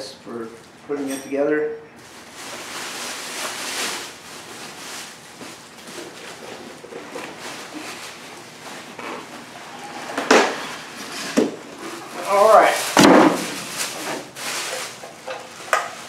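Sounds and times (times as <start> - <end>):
packaging rustling and crinkling: 2.0 - 16.0.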